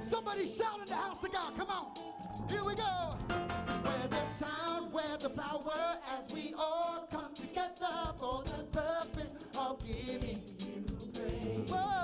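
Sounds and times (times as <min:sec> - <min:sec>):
band playing steady beat: 0:00.0 - 0:12.0
man singing: 0:00.0 - 0:12.0.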